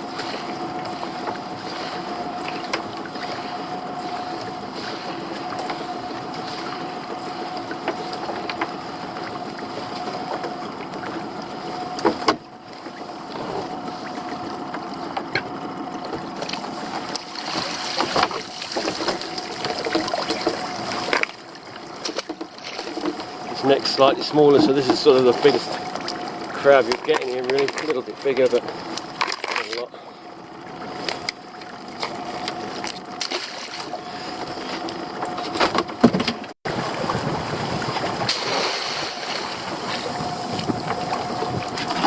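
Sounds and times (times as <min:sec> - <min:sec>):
boat engine humming: 0:00.0 - 0:42.0.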